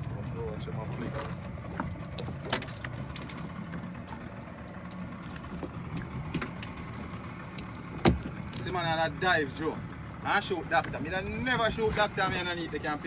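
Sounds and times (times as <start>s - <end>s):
low rumble on a boat: 0.0s - 13.0s.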